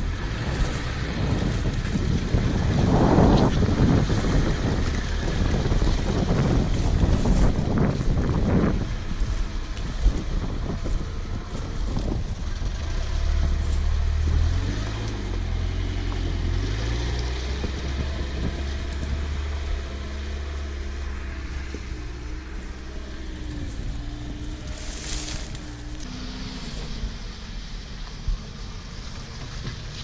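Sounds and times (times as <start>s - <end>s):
engine running under load: 0.0s - 30.0s.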